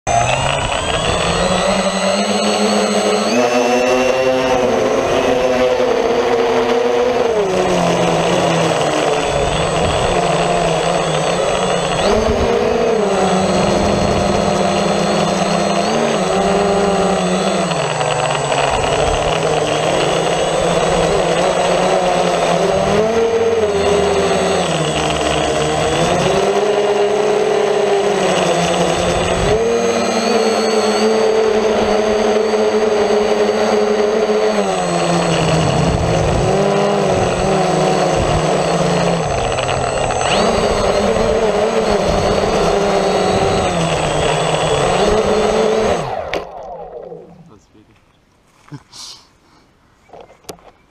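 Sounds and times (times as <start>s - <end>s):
drone motors buzzing: 0.0s - 47.8s.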